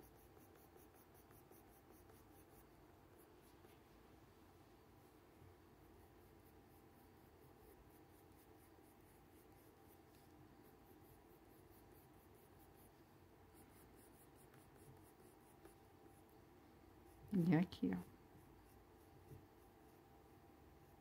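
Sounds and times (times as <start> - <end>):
pencil scratching on paper: 0.0 - 3.8, 5.9 - 20.0.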